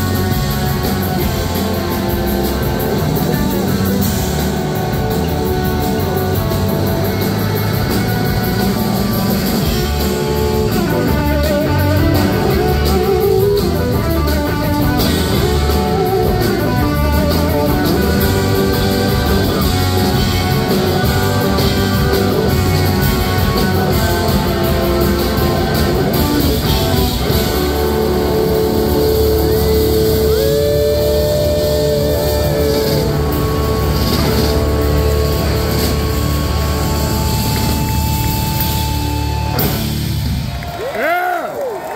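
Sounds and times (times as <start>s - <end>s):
electric guitar bending notes: 0.0s - 40.5s
rock band playing: 0.0s - 41.9s.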